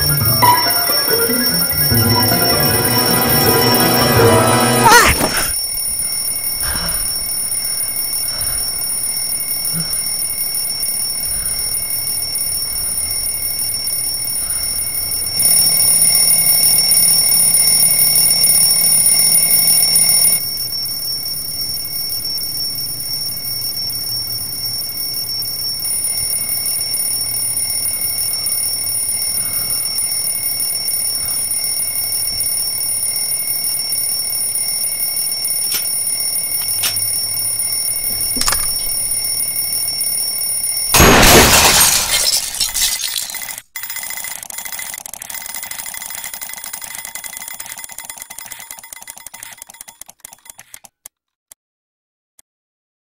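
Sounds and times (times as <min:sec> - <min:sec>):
alarm clock ringing: 0:00.0 - 0:41.0, 0:43.4 - 0:50.0.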